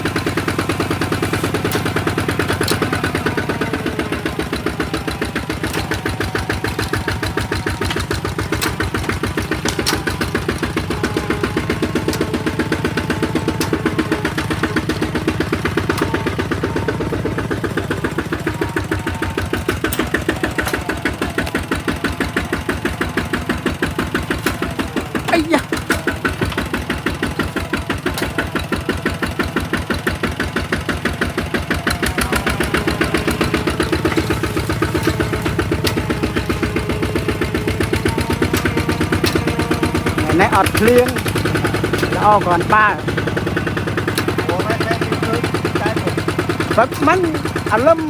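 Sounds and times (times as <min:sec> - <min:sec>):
engine running with rapid thumping: 0:00.0 - 0:48.0.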